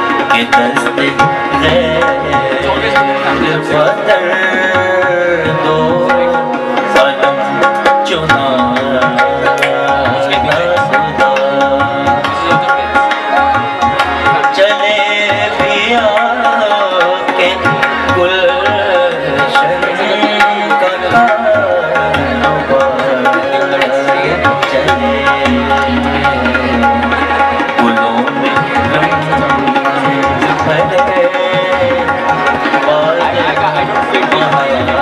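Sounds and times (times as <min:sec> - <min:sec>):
hand drum rhythm: 0:00.0 - 0:35.0
harmonium melody: 0:00.0 - 0:35.0.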